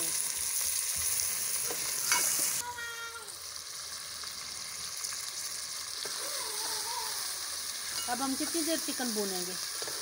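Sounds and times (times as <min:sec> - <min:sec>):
chicken sizzling in hot fat: 0:00.0 - 0:10.0.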